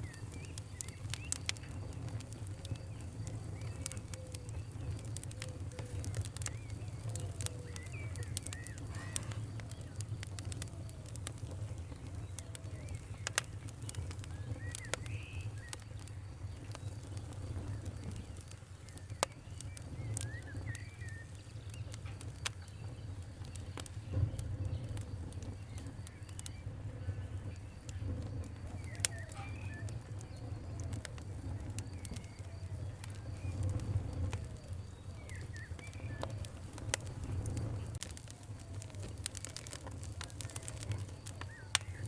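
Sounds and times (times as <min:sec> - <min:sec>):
faint birds chirping: 0:00.0 - 0:42.0
wood fire crackling: 0:00.0 - 0:42.0.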